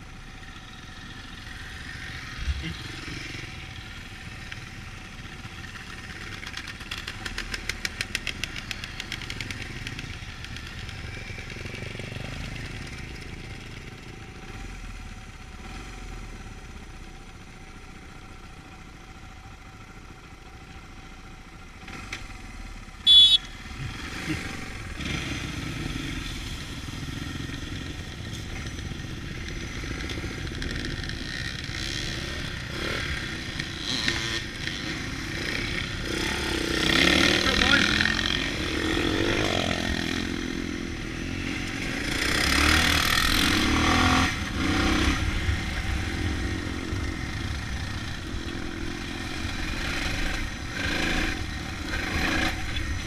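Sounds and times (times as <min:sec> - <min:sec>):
dirt bike engines running: 0:00.0 - 0:20.6, 0:21.3 - 0:53.0.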